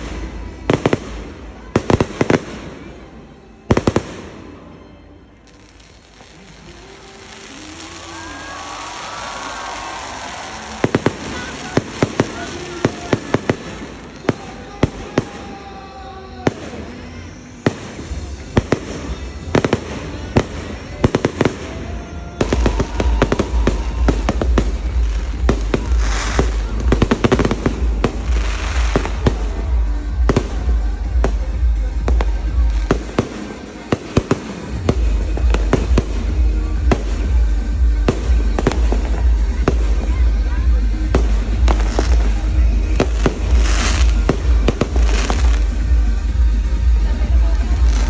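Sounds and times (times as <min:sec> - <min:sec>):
fireworks bangs: 0:05.5 - 0:48.0.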